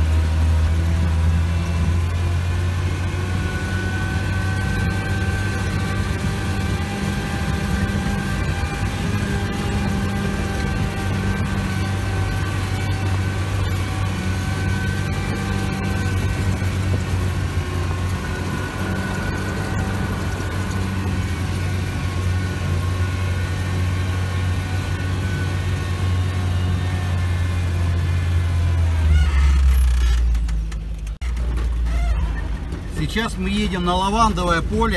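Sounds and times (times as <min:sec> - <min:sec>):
low engine drone: 0:00.0 - 0:34.9
higher whine: 0:00.6 - 0:28.9.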